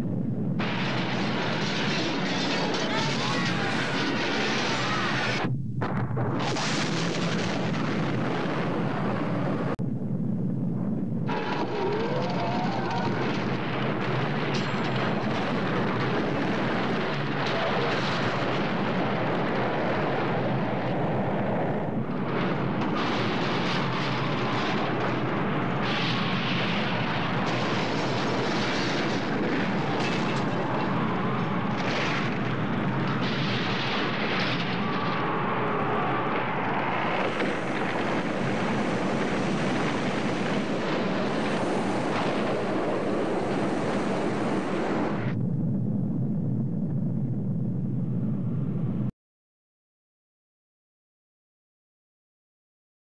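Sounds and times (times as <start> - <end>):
explosion roar and rumble: 0.0 - 49.1.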